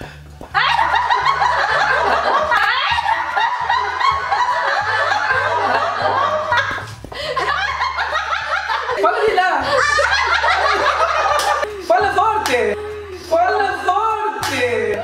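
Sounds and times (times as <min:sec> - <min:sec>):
group of people laughing: 0:00.6 - 0:12.9.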